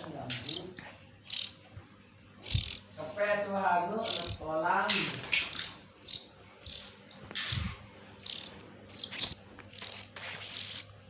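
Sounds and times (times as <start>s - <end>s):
bird chicks chirping: 0.0s - 11.0s.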